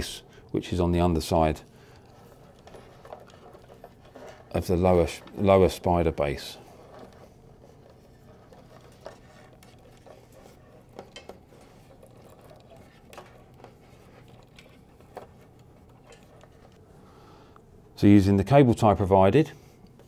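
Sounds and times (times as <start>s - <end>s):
cables handled by hand: 0.0s - 18.0s, 18.9s - 20.0s
low room hum: 0.0s - 20.0s.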